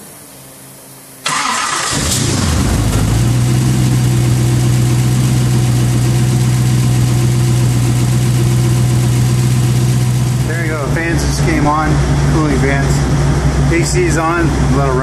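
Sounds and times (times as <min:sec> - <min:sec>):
car engine starting and idling: 0:01.2 - 0:15.0.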